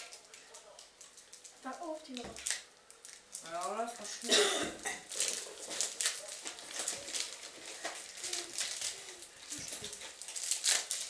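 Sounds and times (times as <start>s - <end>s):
gift wrapping rustling and crinkling: 0.0s - 11.0s.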